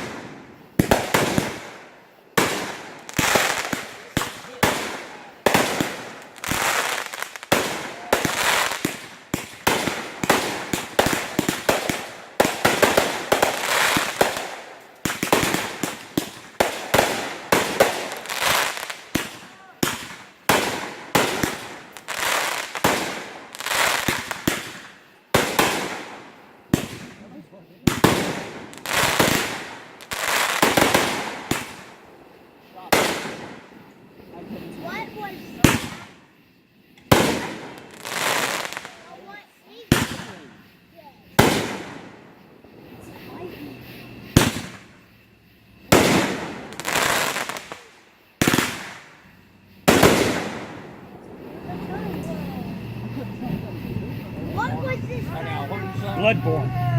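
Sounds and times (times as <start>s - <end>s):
fireworks bangs: 0.0s - 56.9s
fireworks crackling hiss: 0.0s - 56.9s.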